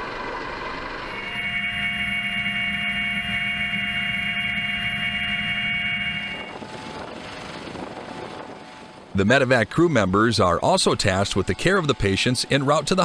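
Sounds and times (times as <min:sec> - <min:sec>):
helicopter turbine whine: 0:00.0 - 0:13.0
rough noisy engine: 0:00.0 - 0:13.0.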